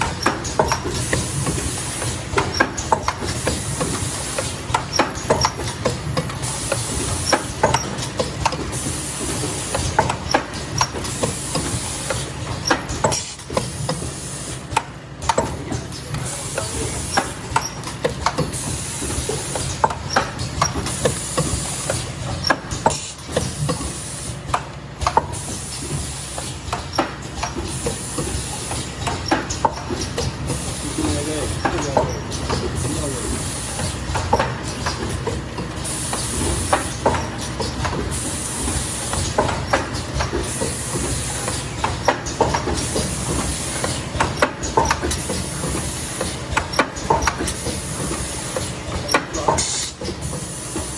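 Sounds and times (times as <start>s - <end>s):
machine clattering and clicking: 0.0s - 50.9s.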